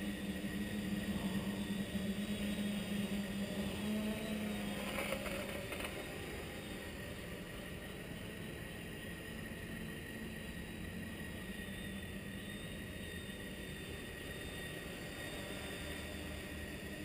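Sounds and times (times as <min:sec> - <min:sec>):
quadcopter propellers humming: 0:00.0 - 0:17.0.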